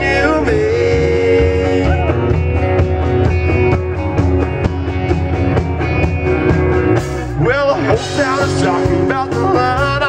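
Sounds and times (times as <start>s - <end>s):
guitars: 0.0s - 10.0s
steady drum beat: 0.0s - 10.0s.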